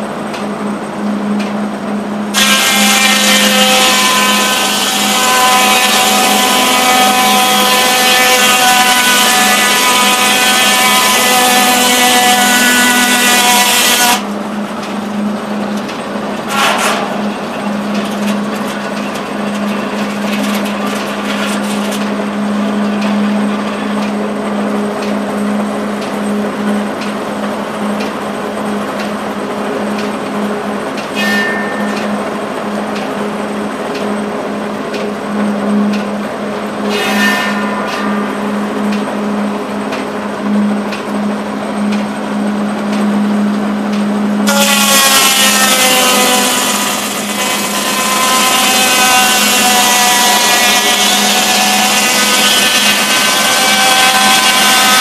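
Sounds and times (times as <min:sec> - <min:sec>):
sawmill running with hum: 0:00.0 - 0:55.0
circular saw cutting log: 0:02.3 - 0:14.3, 0:14.9 - 0:55.0.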